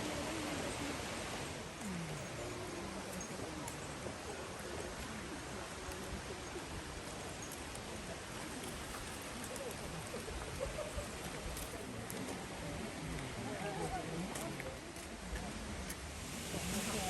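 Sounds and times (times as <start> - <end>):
faint distant voices: 0.0 - 17.0
stream water rushing: 0.0 - 17.0.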